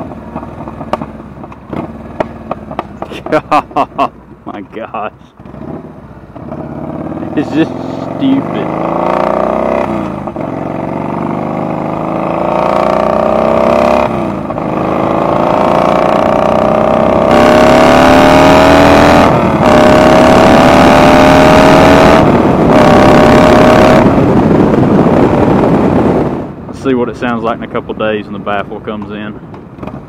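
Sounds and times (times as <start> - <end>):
motorcycle engine accelerating: 0.0 - 26.7.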